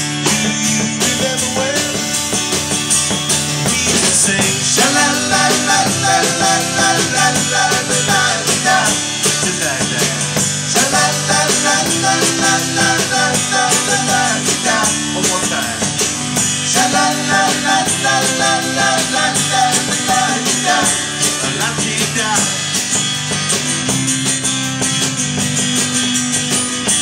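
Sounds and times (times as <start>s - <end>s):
drum kit: 0.0s - 27.0s
keyboard: 0.0s - 27.0s
strummed acoustic guitar: 0.0s - 27.0s.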